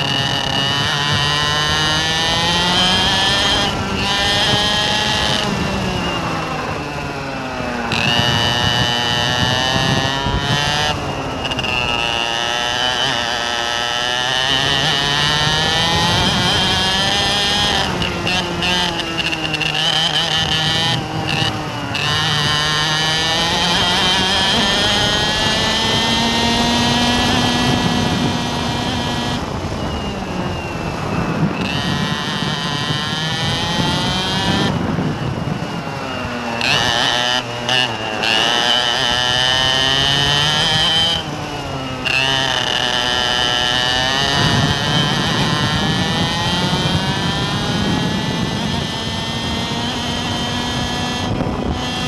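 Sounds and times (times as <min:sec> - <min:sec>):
vehicle engine revving hard: 0:00.0 - 0:52.0.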